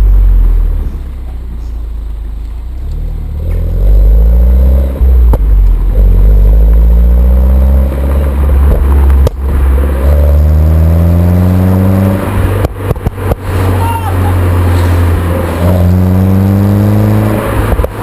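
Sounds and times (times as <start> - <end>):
car engine accelerating: 0.0 - 18.0
exhaust cracks: 0.0 - 18.0.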